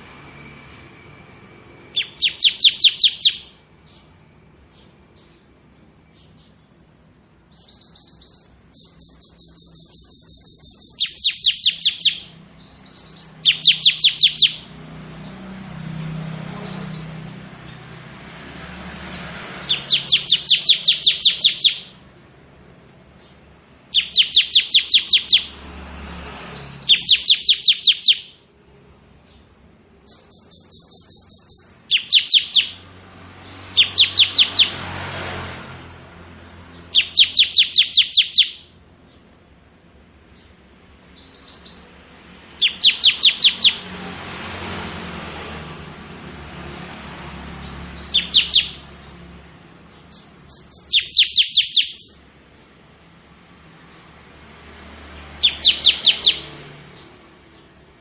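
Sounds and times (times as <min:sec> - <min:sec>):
bird singing rapid trill: 0:00.0 - 0:18.0, 0:18.8 - 0:22.2, 0:23.1 - 0:28.5, 0:29.2 - 0:44.0, 0:47.3 - 0:58.0.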